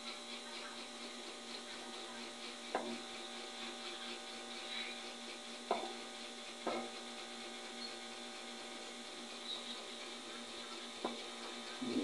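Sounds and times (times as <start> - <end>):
tesla coil humming and hissing: 0.0 - 12.0.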